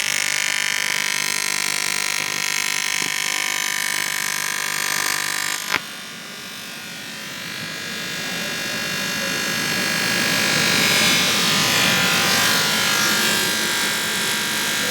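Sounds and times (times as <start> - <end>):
welding arc buzzing: 0.0 - 14.9.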